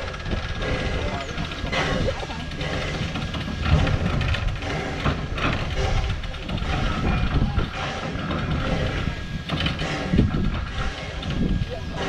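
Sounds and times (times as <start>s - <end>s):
steam locomotive rumbling: 0.0s - 12.0s.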